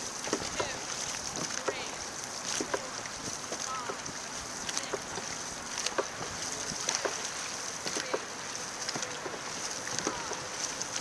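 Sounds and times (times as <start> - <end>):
water rushing along boat hull: 0.0 - 11.0.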